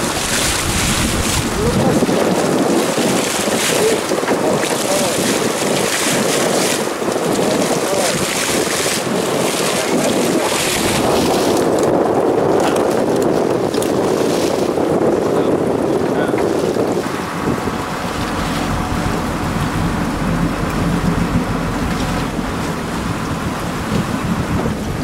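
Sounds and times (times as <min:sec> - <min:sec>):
wind rushing: 0:00.0 - 0:04.6, 0:08.2 - 0:25.0
waves splashing against hull: 0:00.0 - 0:25.0.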